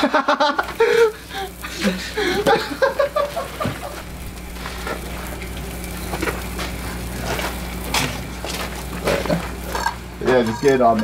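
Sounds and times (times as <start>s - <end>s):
food sizzling: 0.0s - 11.0s
low steady hum: 0.0s - 11.0s.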